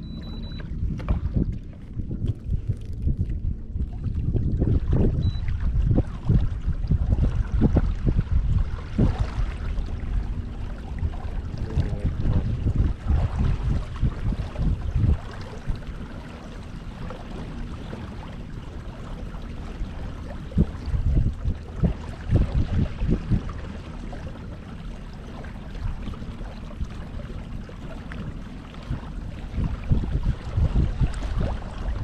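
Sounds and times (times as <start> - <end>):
water noise from kayak: 0.0 - 32.0
wind buffeting microphone: 0.0 - 32.0.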